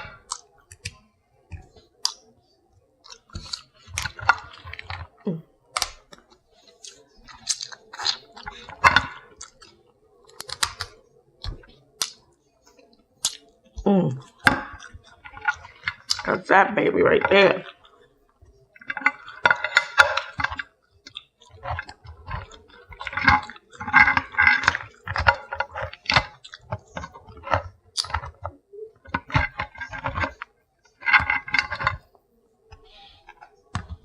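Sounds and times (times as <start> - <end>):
wet chewing and smacking: 0.0 - 16.4, 17.2 - 34.0.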